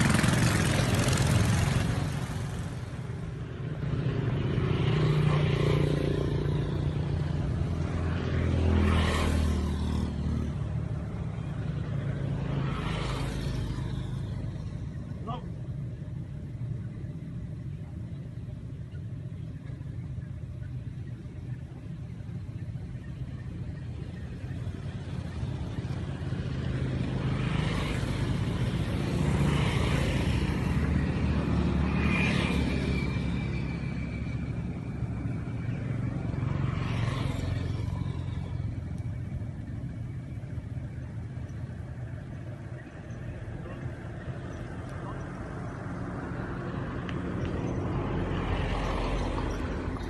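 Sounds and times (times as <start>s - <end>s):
motor vehicle rumble: 0.0s - 50.0s.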